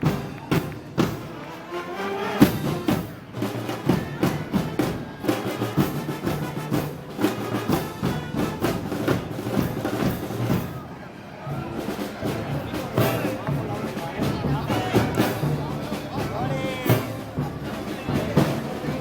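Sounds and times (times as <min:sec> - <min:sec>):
steady drum beat: 0:00.0 - 0:01.6, 0:02.4 - 0:10.9, 0:11.5 - 0:19.0
brass band march: 0:00.0 - 0:19.0.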